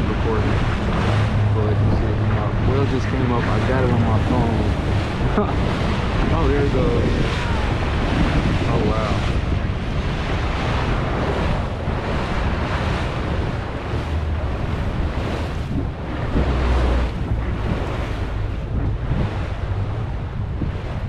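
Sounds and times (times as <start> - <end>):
low rumble: 0.0 - 21.0
ocean water washing: 0.0 - 21.0
wind buffeting microphone: 0.0 - 21.0.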